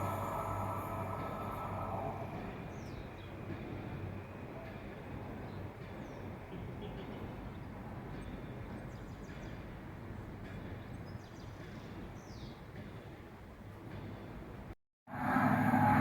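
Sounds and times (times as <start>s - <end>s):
railway station rumble: 0.0s - 16.0s.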